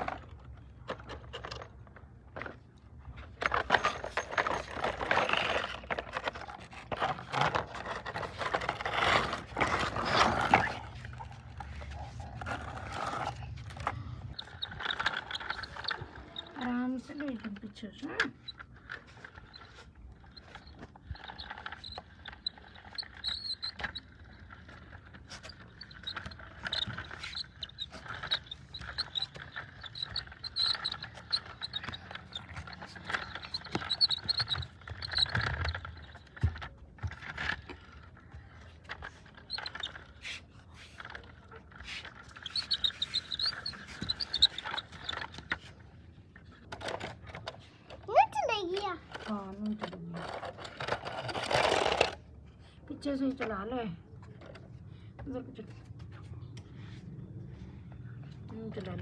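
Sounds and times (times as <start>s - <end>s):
toy wheels scraping and rattling: 0.0s - 55.4s.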